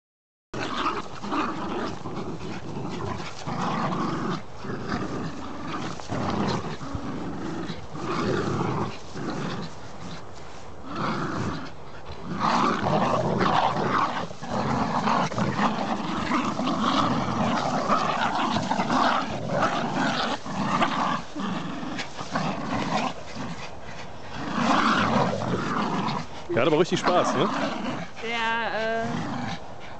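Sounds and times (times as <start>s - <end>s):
dogs growling in play: 0.6s - 29.9s.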